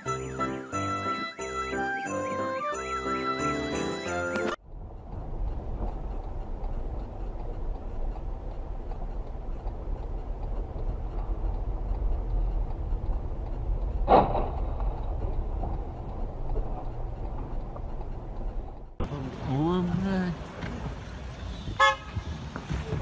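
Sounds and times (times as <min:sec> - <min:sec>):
car engine and tyres rumbling: 0:04.6 - 0:23.0.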